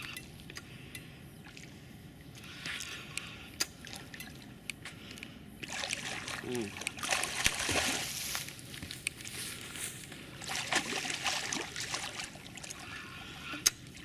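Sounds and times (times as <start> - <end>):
water splashing and sloshing: 1.4 - 9.5, 10.3 - 14.0.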